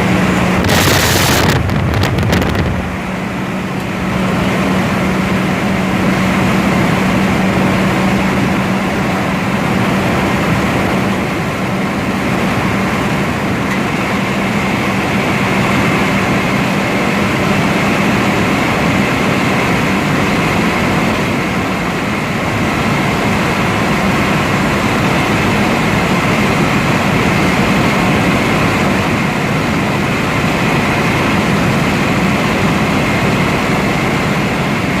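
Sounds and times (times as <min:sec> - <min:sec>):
car engine drone: 0:00.0 - 0:35.0
road noise: 0:00.0 - 0:35.0.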